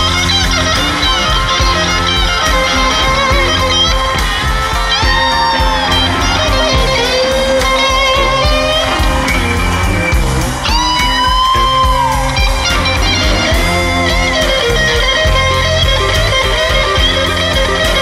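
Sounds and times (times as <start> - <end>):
bass: 0.0 - 18.0
drums: 0.0 - 18.0
electric guitar solo: 0.0 - 18.0.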